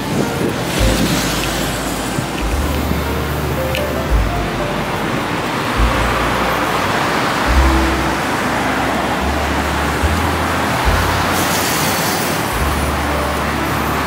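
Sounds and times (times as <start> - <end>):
city street traffic: 0.0 - 14.0
music with low bass line: 0.0 - 14.0.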